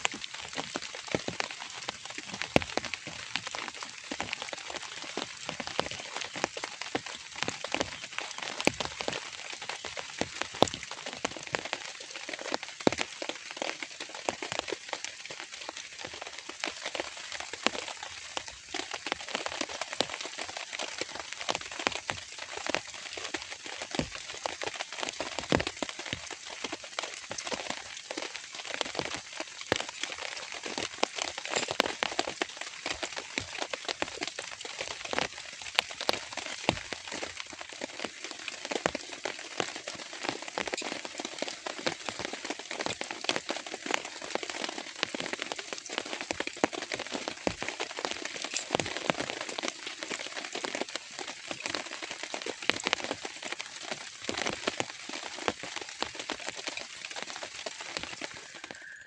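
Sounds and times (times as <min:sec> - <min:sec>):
raindrops tapping: 0:00.0 - 0:58.9
steady rain: 0:00.0 - 0:59.0.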